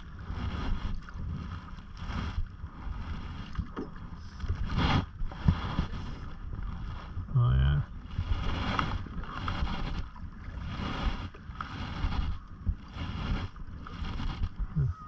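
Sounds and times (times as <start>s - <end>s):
paddle splashing through water: 0.0s - 15.0s.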